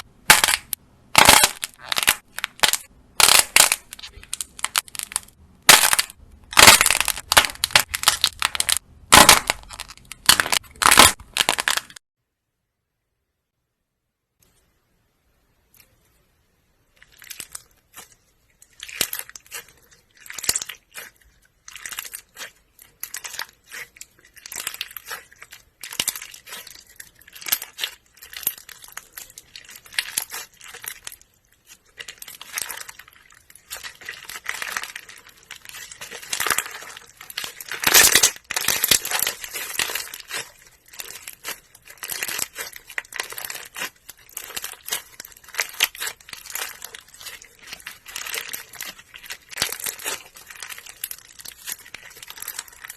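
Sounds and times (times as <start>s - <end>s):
slime crackling and popping: 0.0s - 12.0s, 16.9s - 52.9s.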